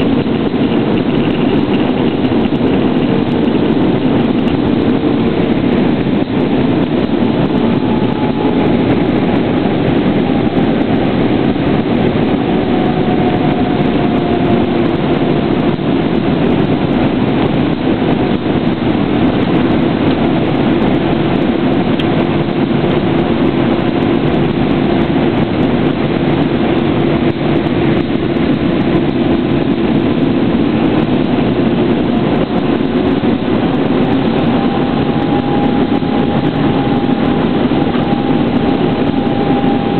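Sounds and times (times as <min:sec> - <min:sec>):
airflow rush: 0:00.0 - 0:39.9
faint engine tones: 0:00.0 - 0:39.9
jet engines running: 0:00.0 - 0:39.9.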